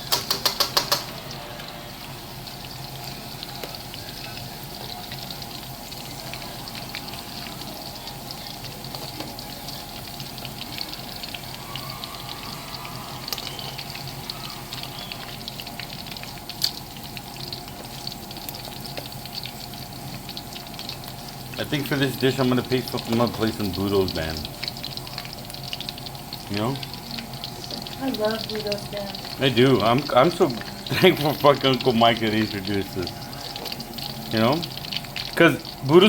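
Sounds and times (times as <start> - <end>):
oil sizzling and crackling: 0.0 - 36.0.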